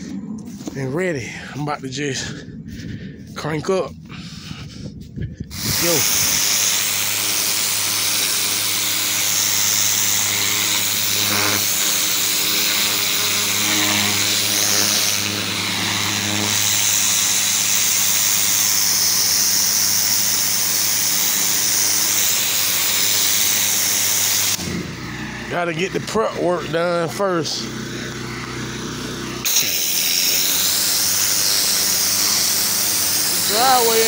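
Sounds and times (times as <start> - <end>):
pressure washer engine running: 5.5 - 34.0.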